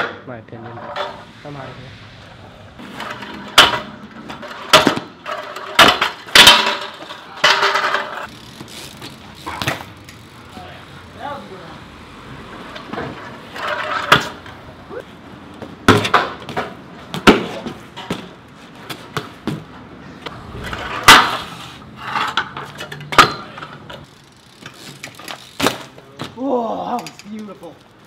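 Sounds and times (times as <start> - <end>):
bike tyres rolling on concrete: 0.0 - 28.0.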